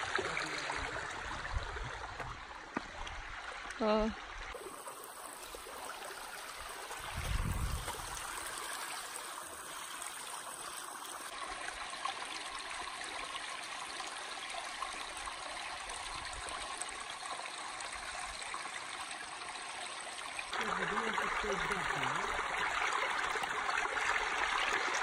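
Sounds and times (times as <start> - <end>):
creek babbling over stones: 0.0 - 25.0.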